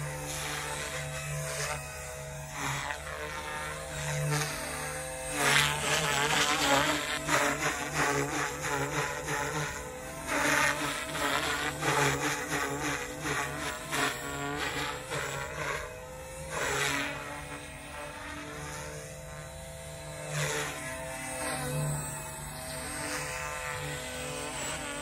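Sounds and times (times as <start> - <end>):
toy helicopter motor and rotor whine: 0.0 - 25.0.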